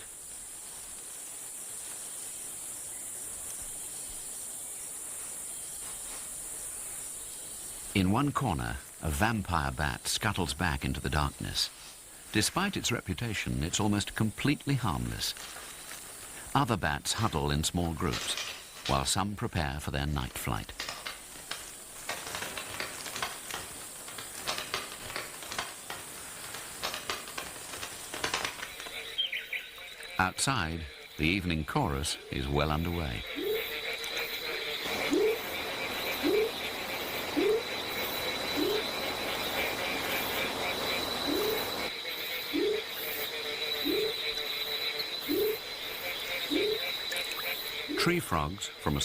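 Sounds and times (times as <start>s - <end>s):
insects calling: 0.0s - 49.0s
steady hiss: 0.0s - 49.0s.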